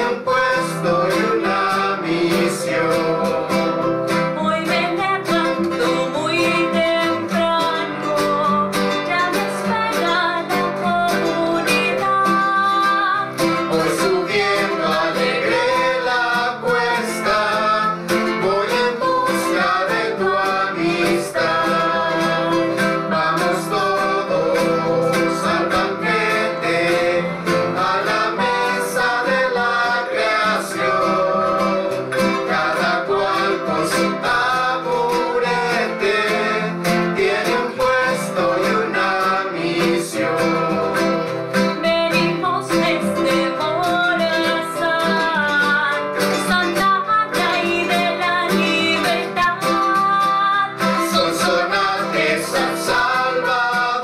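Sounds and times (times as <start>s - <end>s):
voices singing praise song: 0.0s - 10.7s, 11.3s - 46.2s, 47.3s - 54.0s
keyboard: 0.0s - 54.0s
strummed acoustic guitars: 0.0s - 54.0s.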